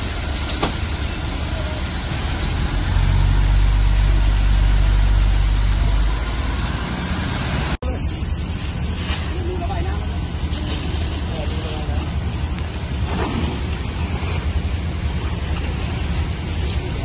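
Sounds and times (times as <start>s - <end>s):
fire truck engine and pump hum: 0.0s - 17.0s
water cannon spray hissing: 0.0s - 17.0s.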